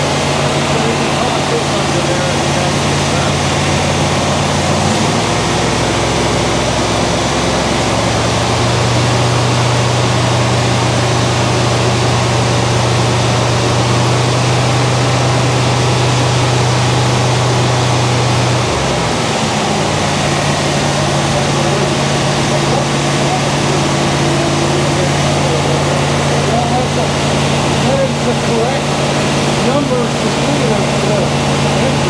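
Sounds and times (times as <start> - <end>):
engine low drone: 0.0 - 32.0
loud rushing exhaust: 0.0 - 32.0.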